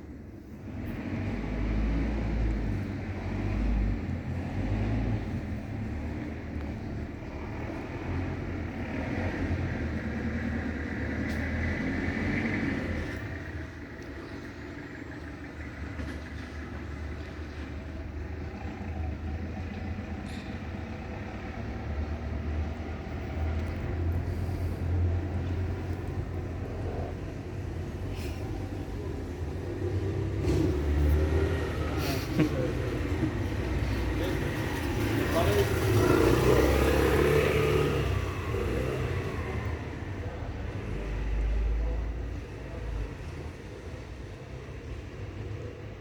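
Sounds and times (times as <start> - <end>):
street traffic rumble: 0.0 - 46.0.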